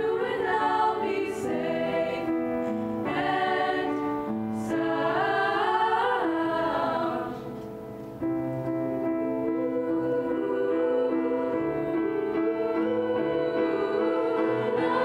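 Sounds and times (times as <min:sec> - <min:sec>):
choir singing: 0:00.0 - 0:07.6, 0:09.2 - 0:15.0
grand piano: 0:00.0 - 0:15.0.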